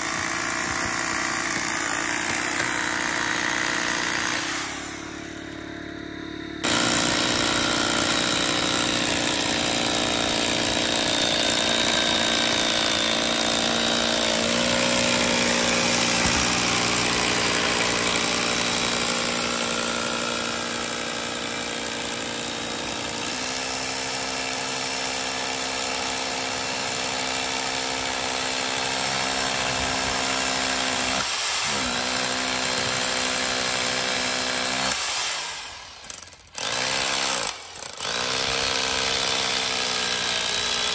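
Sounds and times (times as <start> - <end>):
hammer drill boring into concrete: 0.0 - 40.9.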